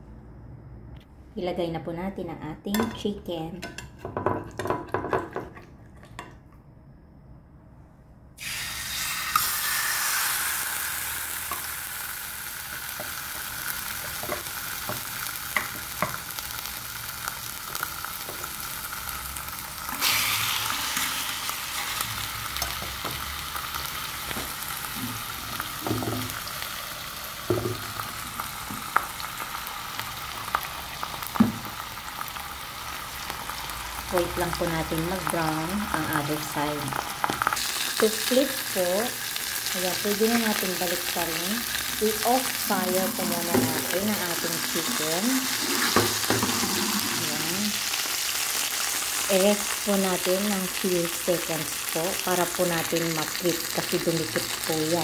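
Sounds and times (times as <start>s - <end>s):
chicken sizzling in oil: 8.4s - 55.0s.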